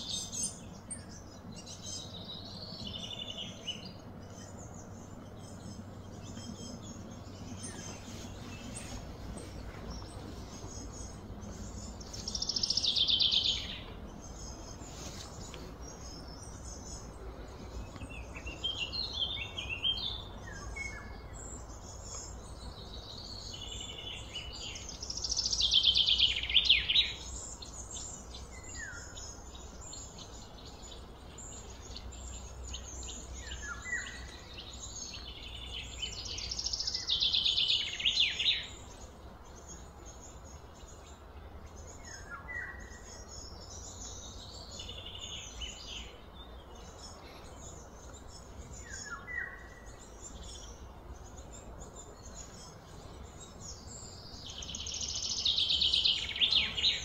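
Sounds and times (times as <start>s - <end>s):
bird chirps: 0.0s - 57.0s
bird trilling song: 0.0s - 57.0s
low steady rumble: 0.0s - 57.0s.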